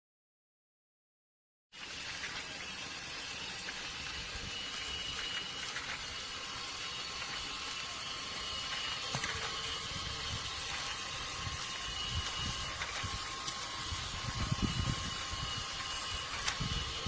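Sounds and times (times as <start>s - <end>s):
faint high whine: 1.8s - 17.0s
food sizzling: 1.8s - 17.0s.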